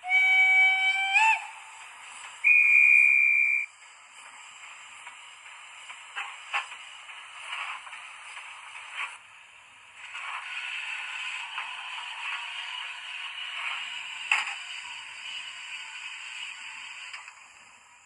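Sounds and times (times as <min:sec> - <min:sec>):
tinny steam hiss from speaker: 0:00.0 - 0:18.0.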